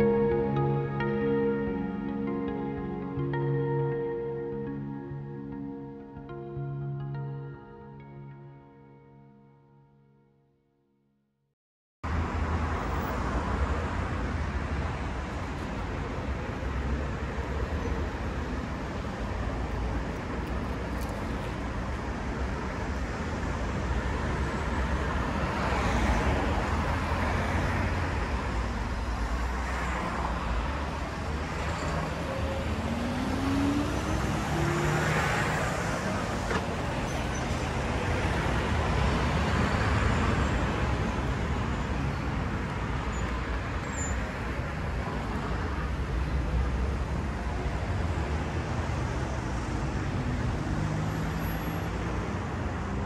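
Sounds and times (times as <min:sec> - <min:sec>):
road rumble: 0:00.0 - 0:09.5, 0:12.0 - 0:53.0
vehicles passing: 0:00.0 - 0:09.8, 0:12.1 - 0:53.0.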